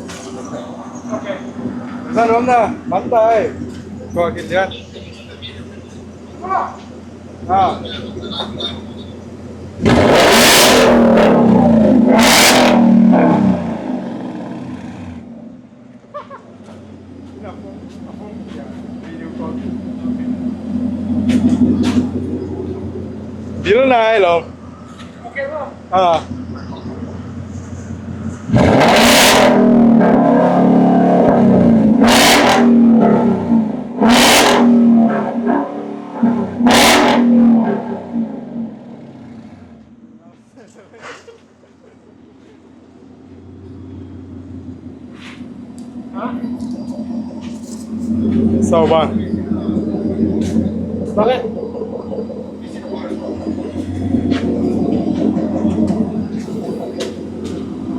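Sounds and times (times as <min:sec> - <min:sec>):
car engine revving: 0:00.0 - 0:15.8, 0:16.6 - 0:40.1, 0:42.6 - 0:57.9.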